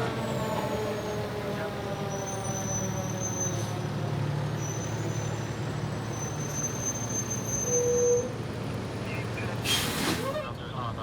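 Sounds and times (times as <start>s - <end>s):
fire truck diesel engine rumbling: 0.0s - 11.0s.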